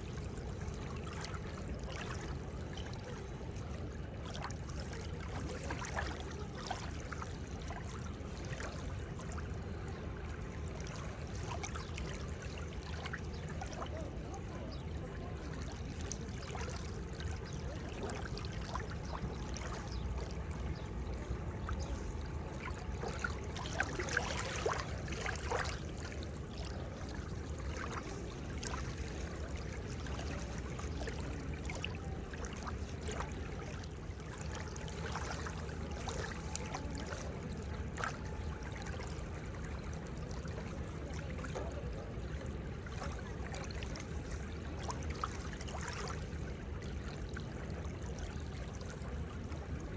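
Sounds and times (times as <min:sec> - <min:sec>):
seawater lapping at shore: 0:00.0 - 0:49.9.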